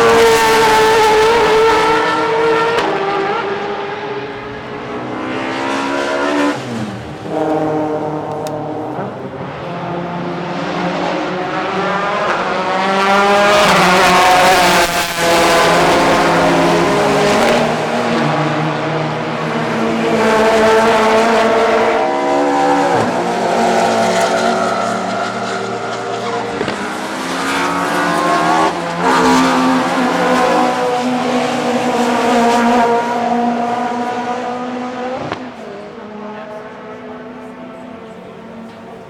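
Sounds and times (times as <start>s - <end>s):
race cars passing: 0.0s - 39.0s.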